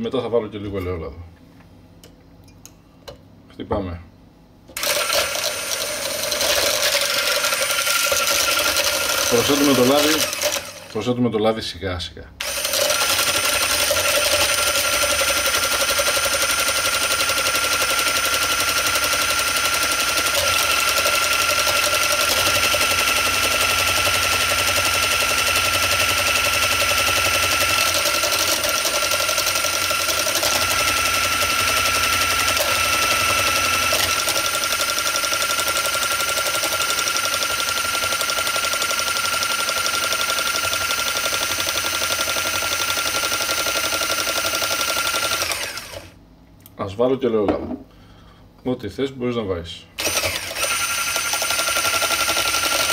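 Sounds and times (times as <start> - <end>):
immersion blender whining: 4.7 - 11.0, 12.4 - 46.2, 50.0 - 52.9.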